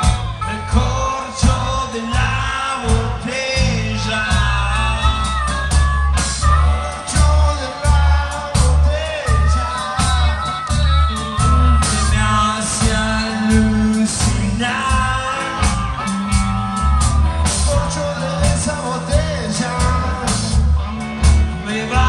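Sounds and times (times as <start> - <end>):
harmonica wavering notes: 0.0 - 22.0
man singing: 0.0 - 22.0
rock band playing live: 0.0 - 22.0.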